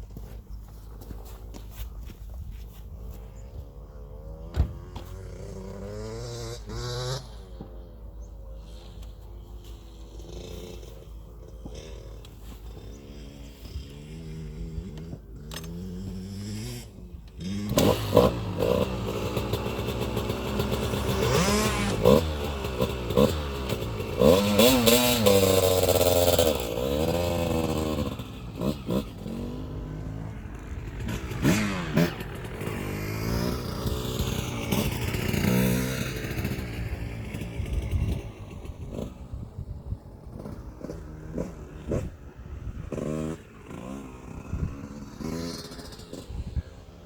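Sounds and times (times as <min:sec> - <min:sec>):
dirt bike engine revving: 0:02.9 - 0:47.0.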